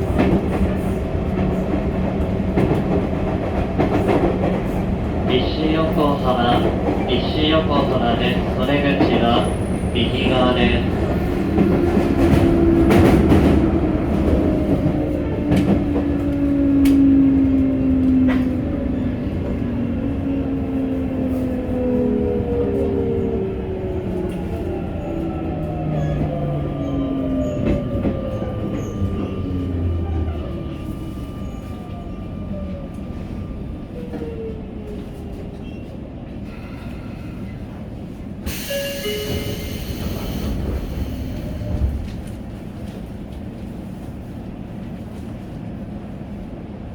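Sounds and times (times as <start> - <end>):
train wheels rumbling: 0.0 - 46.7.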